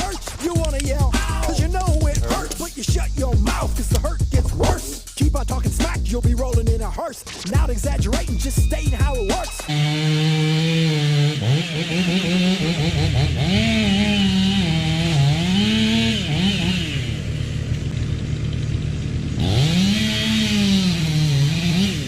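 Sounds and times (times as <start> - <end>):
chainsaw cutting wood: 0.0 - 2.8, 3.4 - 5.2, 9.0 - 22.0.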